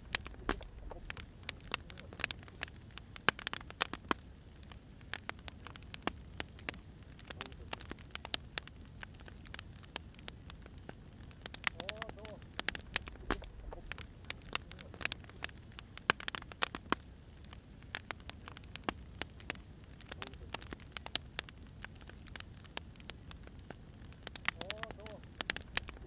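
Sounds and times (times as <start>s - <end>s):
fire popping and snapping: 0.0s - 26.0s
low steady rumble: 0.0s - 26.0s
wood fire crackling: 0.0s - 26.0s.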